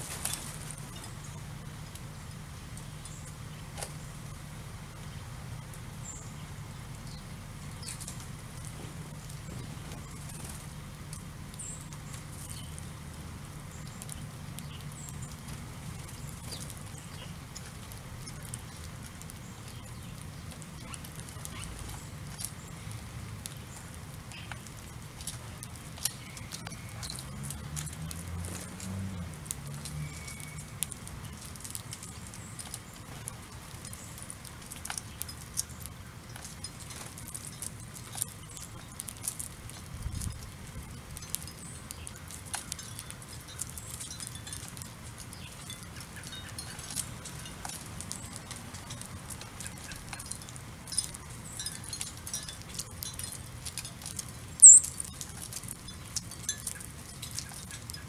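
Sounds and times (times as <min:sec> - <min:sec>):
birds pecking on asphalt: 0:00.0 - 0:58.0
low steady hum: 0:00.0 - 0:58.0.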